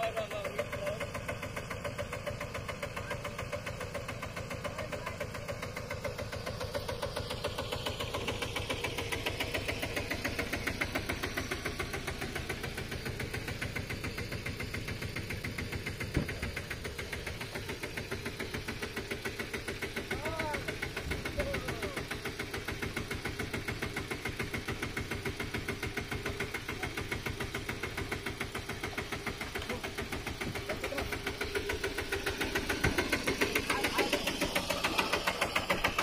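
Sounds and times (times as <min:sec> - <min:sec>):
mini tractor engine running: 0:00.0 - 0:36.0.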